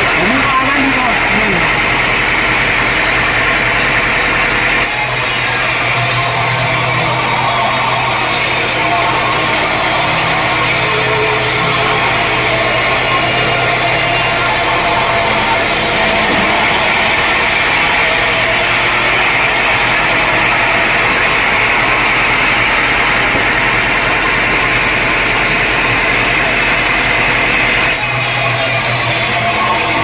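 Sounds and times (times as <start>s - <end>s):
motor hum: 0.0s - 30.0s
saw cutting log: 0.0s - 30.0s.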